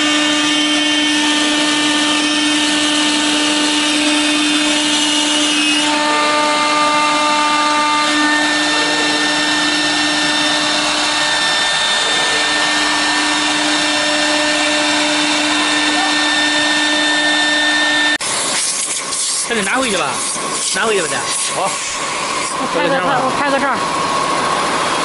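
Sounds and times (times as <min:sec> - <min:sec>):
spindle high-pitched whine: 0:00.0 - 0:25.0
cutter chipping plastic hiss: 0:02.2 - 0:22.6.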